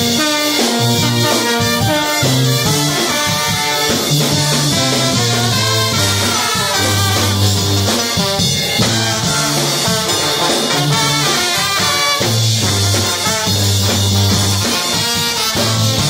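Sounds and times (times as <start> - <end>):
brass band playing swing tune: 0.0 - 16.0
drums: 0.0 - 16.0
sousaphone bass line: 0.8 - 14.8.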